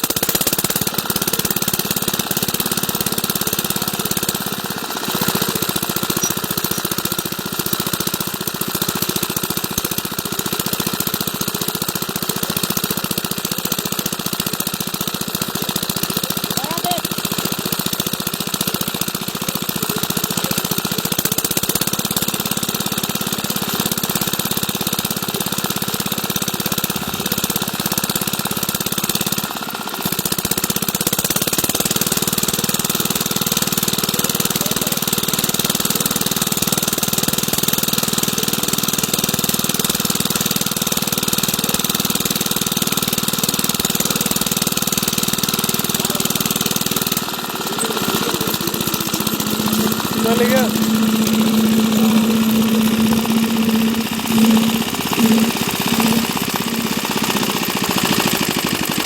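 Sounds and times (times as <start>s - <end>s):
diesel water pump engine running: 0.0s - 59.0s.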